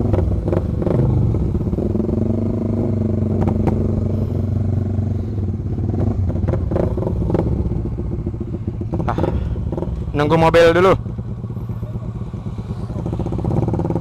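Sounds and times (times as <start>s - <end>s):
motorcycle engine idling: 0.0s - 14.0s
second motorcycle idling: 0.0s - 14.0s.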